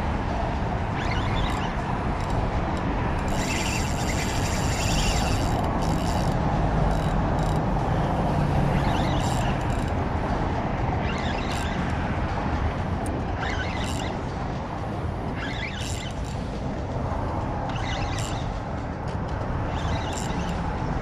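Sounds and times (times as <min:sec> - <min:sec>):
fishing reel gears whirring: 0:00.5 - 0:21.0.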